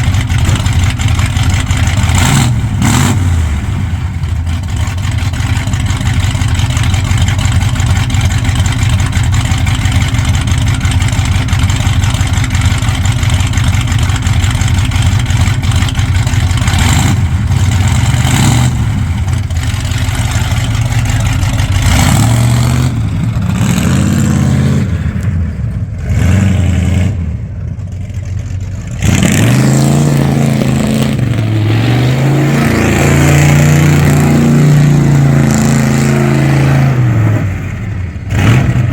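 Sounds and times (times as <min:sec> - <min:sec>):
pickup truck engine: 0:00.0 - 0:38.9
road noise: 0:00.0 - 0:38.9.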